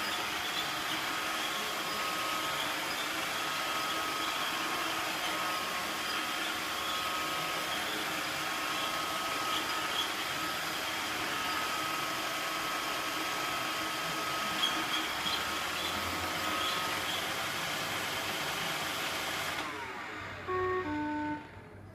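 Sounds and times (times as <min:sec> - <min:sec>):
robot vacuum whirring: 0:00.0 - 0:21.5.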